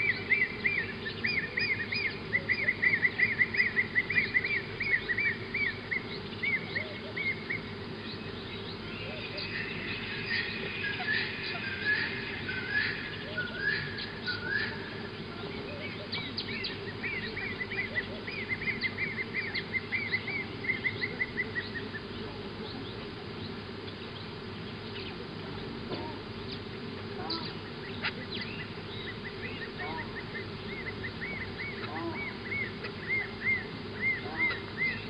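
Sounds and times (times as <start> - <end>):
birds whistling calls: 0.0 - 35.0
low background noise: 0.0 - 35.0.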